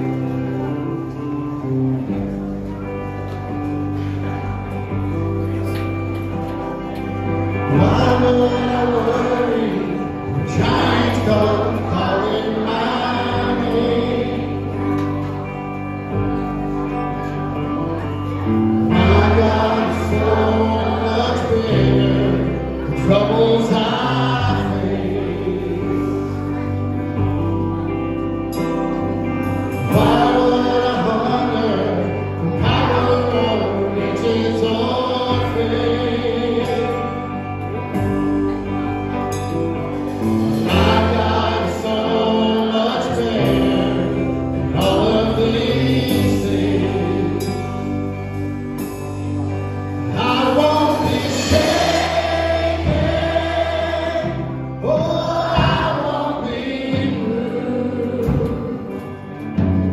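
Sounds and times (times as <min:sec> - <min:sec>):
worship band playing: 0:00.0 - 0:59.9
congregation singing: 0:05.8 - 0:59.9.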